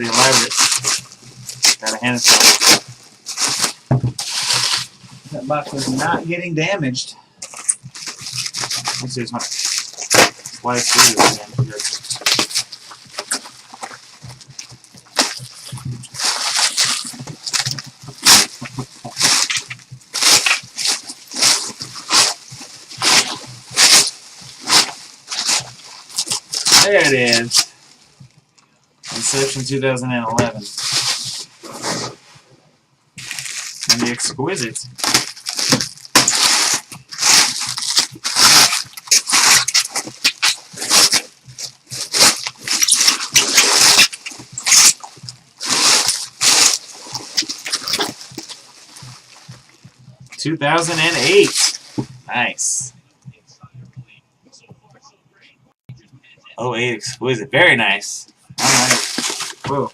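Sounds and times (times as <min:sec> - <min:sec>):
plastic wrapping rustling: 0:00.0 - 0:06.7, 0:07.4 - 0:32.5, 0:33.2 - 0:56.2, 0:58.2 - 0:59.9.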